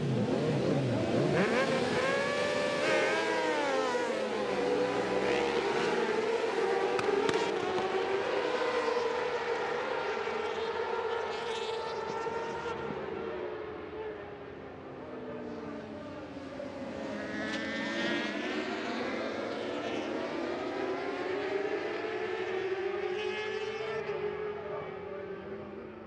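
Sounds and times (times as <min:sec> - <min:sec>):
motorcycle engines revving: 0:00.0 - 0:14.0, 0:14.8 - 0:26.0.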